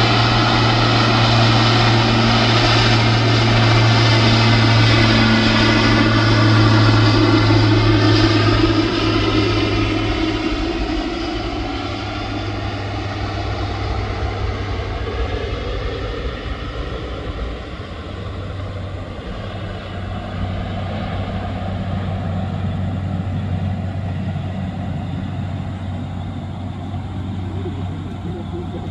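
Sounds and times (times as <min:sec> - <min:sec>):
turboprop engines droning: 0:00.0 - 0:28.9.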